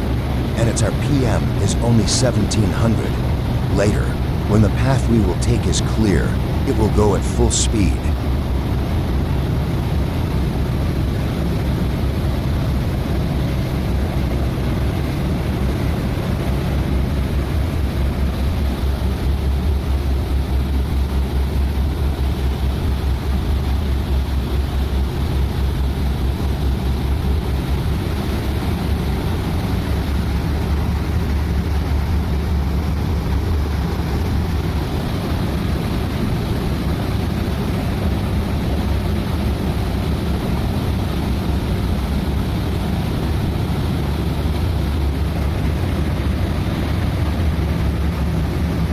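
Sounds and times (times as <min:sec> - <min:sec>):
boat engines humming: 0:00.0 - 0:48.9
propeller wash churning water: 0:00.0 - 0:48.9.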